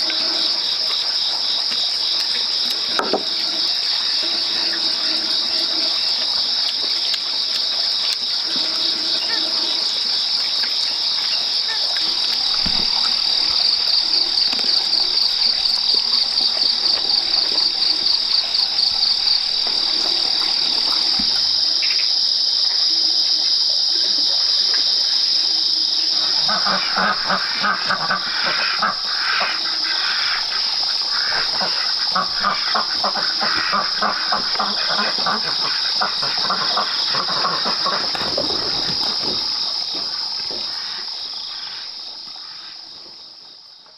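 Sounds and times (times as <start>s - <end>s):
insects trilling: 0.0s - 43.9s
lower pulsing insect call: 0.0s - 43.9s.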